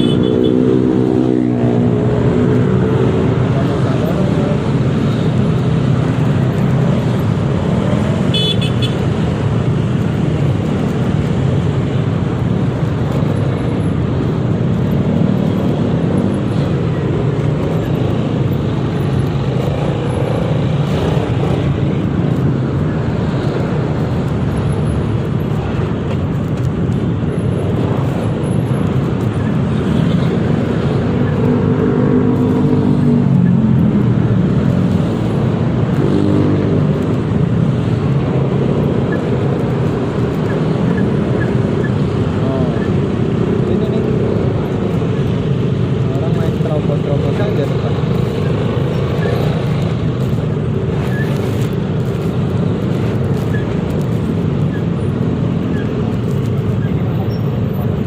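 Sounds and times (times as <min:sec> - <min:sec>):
surrounding traffic: 0:00.0 - 0:58.0
wind and road noise: 0:00.0 - 0:58.0.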